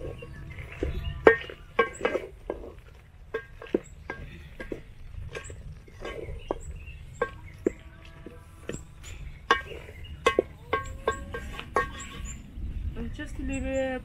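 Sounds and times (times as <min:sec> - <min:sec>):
wooden spoon knocking metal pot: 0:00.0 - 0:12.3.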